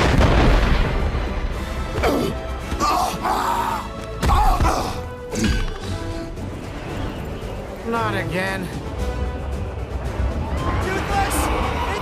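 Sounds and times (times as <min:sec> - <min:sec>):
film music score: 0:00.0 - 0:12.0.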